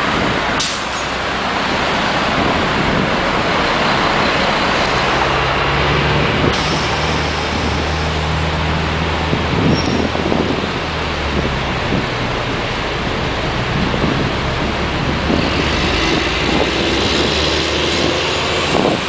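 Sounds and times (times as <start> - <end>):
bus engine droning: 0.0 - 19.0
cars and buses passing: 0.0 - 19.0.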